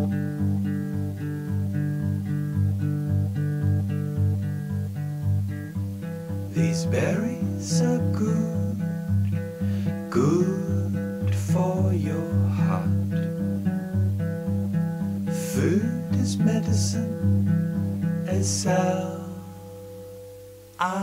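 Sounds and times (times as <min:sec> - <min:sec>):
plucked acoustic guitar music: 0:00.0 - 0:21.0.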